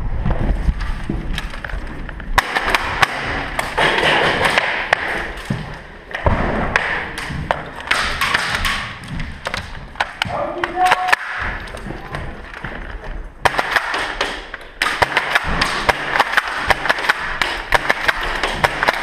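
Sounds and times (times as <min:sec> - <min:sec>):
thumps: 0:00.2 - 0:19.0
sharp clicks and knocks: 0:00.7 - 0:19.0.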